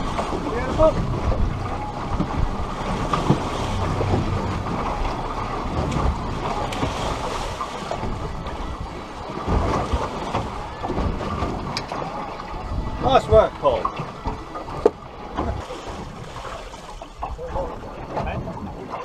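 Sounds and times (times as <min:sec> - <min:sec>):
sea washing around boat: 0:00.0 - 0:19.0
wind buffeting microphone: 0:00.0 - 0:19.0.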